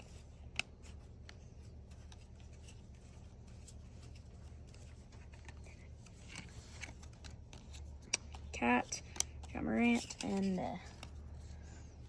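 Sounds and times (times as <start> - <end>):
low steady hum: 0.0 - 12.0
trading cards clicking and rustling: 0.0 - 12.0.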